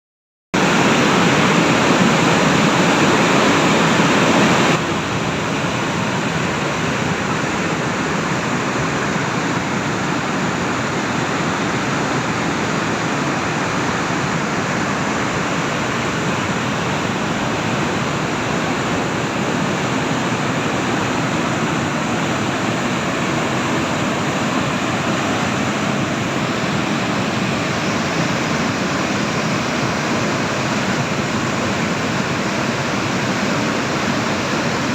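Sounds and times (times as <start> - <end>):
stream rushing: 0.6 - 34.9.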